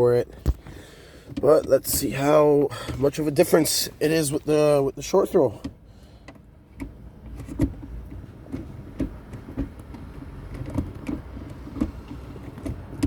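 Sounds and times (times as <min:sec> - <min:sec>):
gear shifter clicks and clunks: 0:00.0 - 0:13.0.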